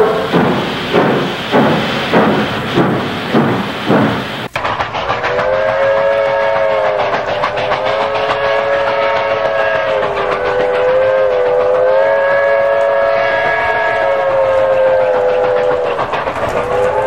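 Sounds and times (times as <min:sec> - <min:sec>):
steam whistle blast: 0:00.0 - 0:17.0.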